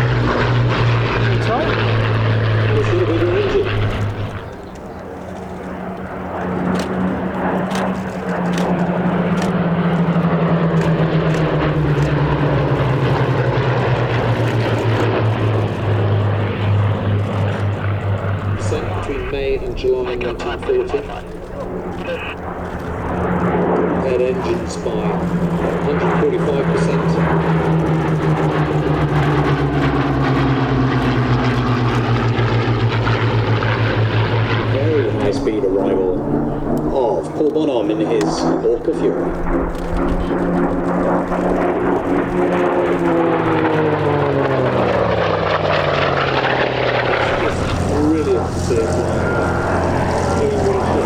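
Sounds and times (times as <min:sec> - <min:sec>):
propeller plane flying past: 0:00.0 - 0:51.0.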